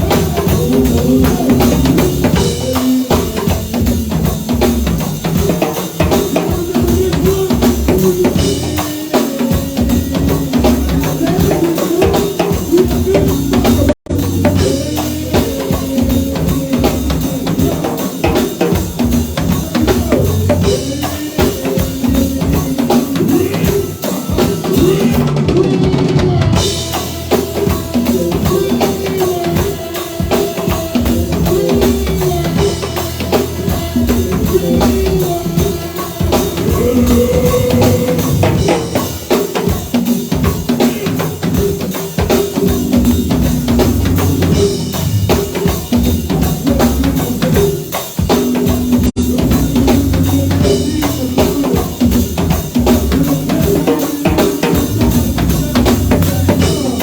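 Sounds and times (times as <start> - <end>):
drum kit beat: 0.0 - 57.0
live band playing: 0.0 - 57.0.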